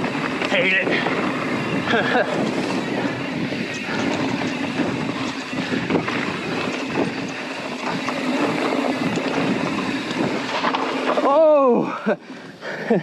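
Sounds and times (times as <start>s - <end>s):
wind noise on microphone: 0.0s - 11.3s
bike rattling over bumps: 0.0s - 13.0s
tyres rolling over dirt trail: 0.0s - 13.0s.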